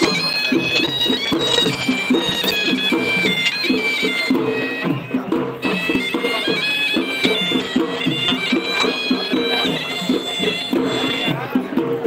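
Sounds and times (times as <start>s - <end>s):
reedy shawm melody: 0.0s - 12.0s.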